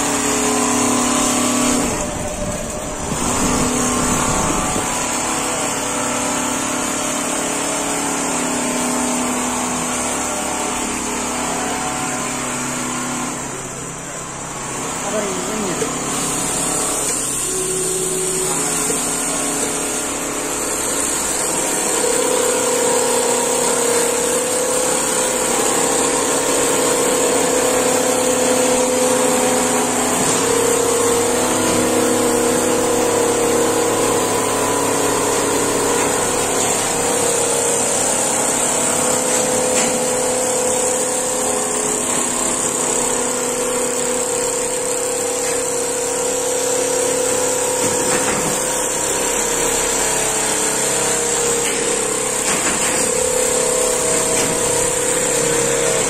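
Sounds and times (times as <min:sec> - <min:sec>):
quilting machine running: 0:00.0 - 0:56.0.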